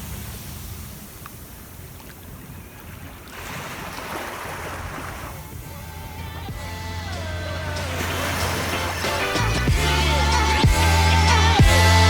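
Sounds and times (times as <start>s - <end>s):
rush of surf: 0.0s - 6.3s, 7.2s - 10.9s
sea noise: 0.0s - 11.9s
wind: 0.0s - 12.0s.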